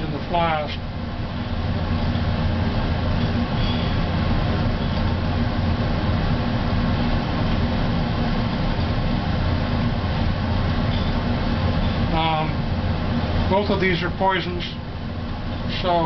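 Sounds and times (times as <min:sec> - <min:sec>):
exhaust fan drone: 0:00.0 - 0:16.0.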